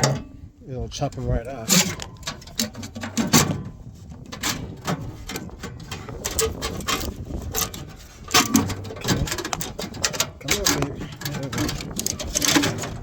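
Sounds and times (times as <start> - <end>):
metal parts clicking and clanking: 0.0 - 0.4, 1.0 - 13.0.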